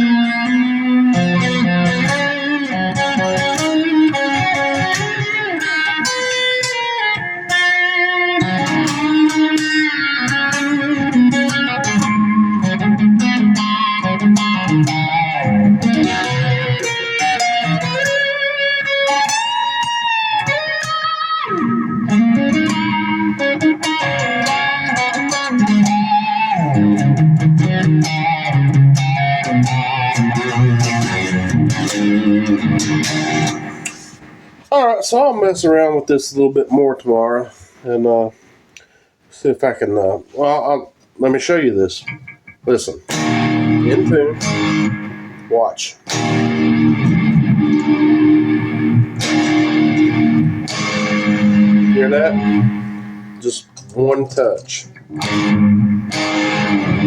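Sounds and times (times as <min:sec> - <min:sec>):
electric guitar lead lines: 0:00.0 - 0:36.1, 0:41.5 - 0:57.0.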